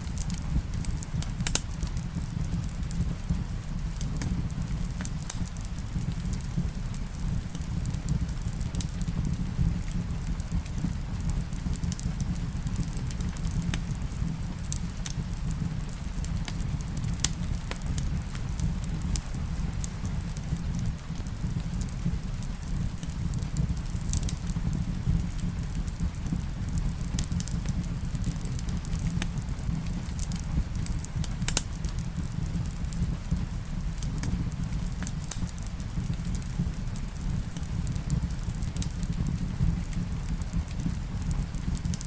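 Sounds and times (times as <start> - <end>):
steady rain: 0.0 - 42.0
wood fire crackling: 0.0 - 42.0.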